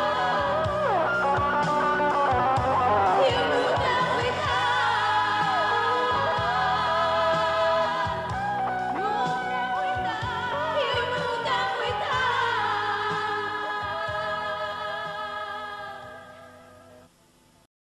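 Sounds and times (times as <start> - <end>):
pop band playing sustained chords: 0.0 - 17.1.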